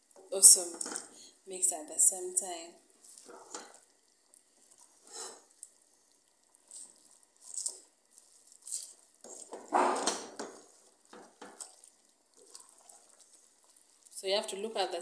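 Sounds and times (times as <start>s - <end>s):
wooden spoon stirring in pot: 0.0s - 15.0s.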